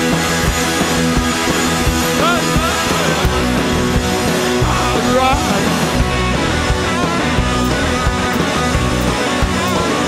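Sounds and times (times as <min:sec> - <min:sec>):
drum hits: 0:00.0 - 0:10.0
live rock band playing: 0:00.0 - 0:10.0.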